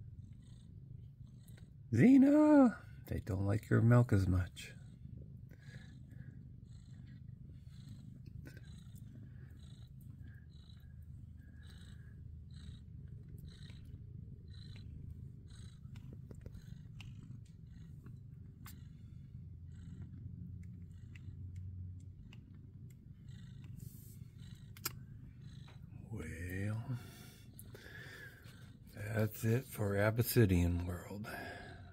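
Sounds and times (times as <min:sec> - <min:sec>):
cats purring: 0:00.0 - 0:31.9.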